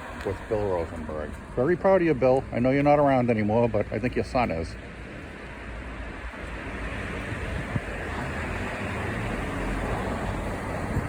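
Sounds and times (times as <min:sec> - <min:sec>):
busy road traffic: 0:00.0 - 0:11.0.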